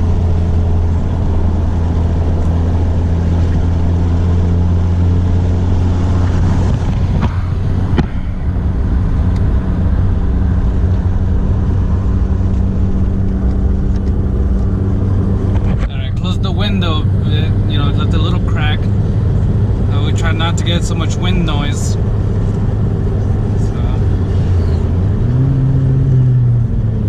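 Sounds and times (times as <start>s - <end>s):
car engine drone in cabin: 0.0s - 27.0s
wind noise: 0.0s - 27.0s.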